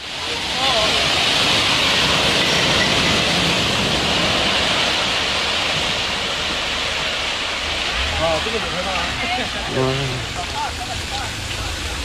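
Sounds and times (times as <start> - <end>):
loud steady rushing noise: 0.0 - 12.0.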